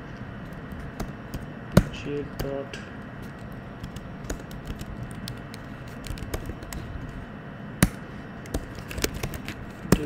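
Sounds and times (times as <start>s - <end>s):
steady background noise: 0.0s - 10.0s
keyboard typing: 0.4s - 2.6s, 3.2s - 7.2s, 7.8s - 10.0s.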